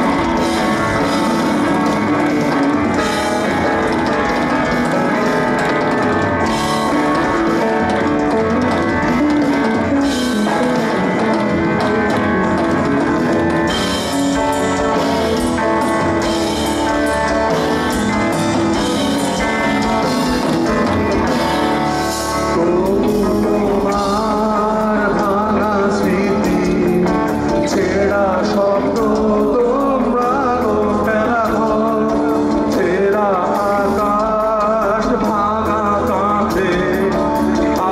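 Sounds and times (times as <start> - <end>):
bass guitar: 0.0 - 37.9
distorted electric guitars: 0.0 - 37.9
drum kit: 0.0 - 37.9
person singing: 0.0 - 37.9.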